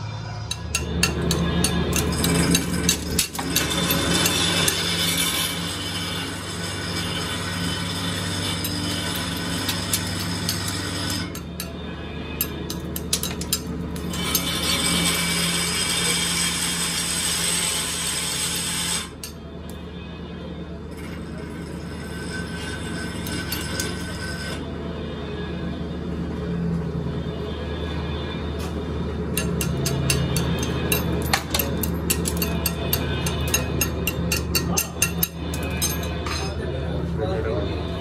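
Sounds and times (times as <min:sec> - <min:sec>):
workshop machinery humming: 0:00.0 - 0:38.0.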